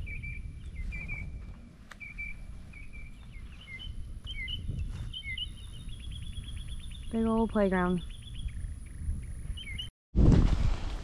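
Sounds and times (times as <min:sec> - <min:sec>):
bird chirping: 0:00.0 - 0:09.9
low microphone rumble: 0:00.0 - 0:11.0.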